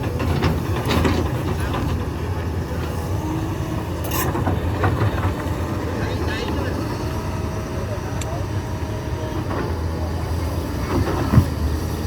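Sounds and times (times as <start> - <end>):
diesel excavator engine: 0.0 - 12.0.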